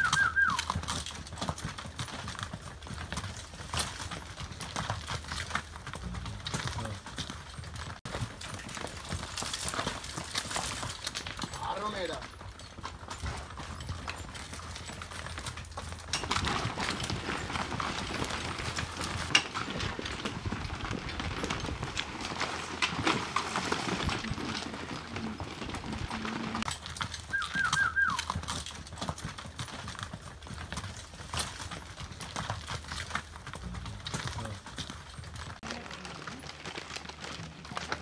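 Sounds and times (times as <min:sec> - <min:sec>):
hooves clip-clopping on rocks: 0:00.0 - 0:38.0.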